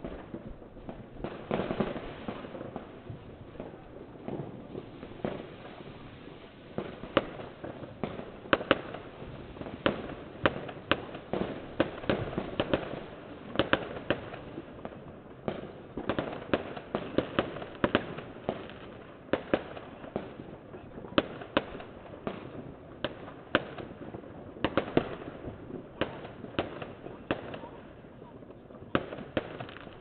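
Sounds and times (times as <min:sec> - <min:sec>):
firecrackers banging: 0:00.0 - 0:30.0.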